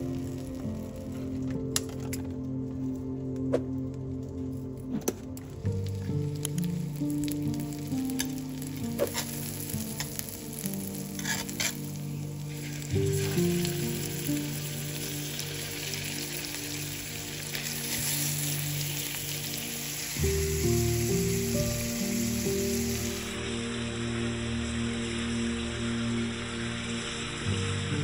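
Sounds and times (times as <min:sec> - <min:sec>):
food sizzling in a pan: 0:00.0 - 0:02.1, 0:05.8 - 0:28.0.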